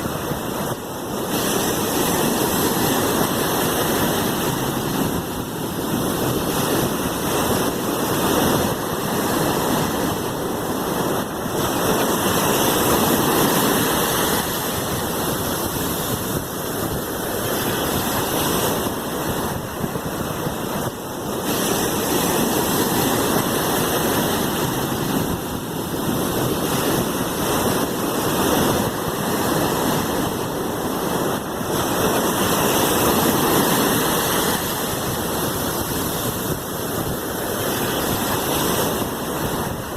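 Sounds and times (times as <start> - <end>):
surf washing: 0.0 - 39.9.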